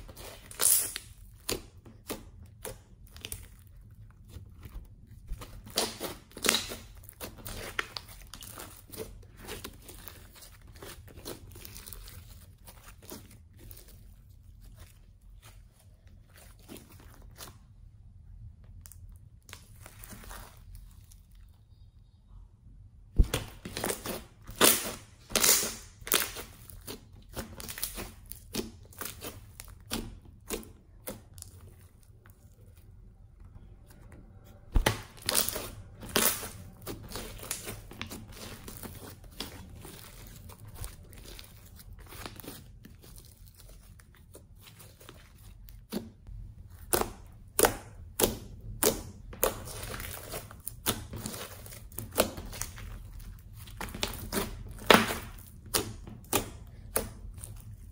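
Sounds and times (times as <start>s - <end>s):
slime popping and crackling: 0.0s - 15.5s, 23.2s - 32.7s, 34.3s - 57.9s
slime squelching: 0.0s - 22.2s, 23.2s - 57.9s.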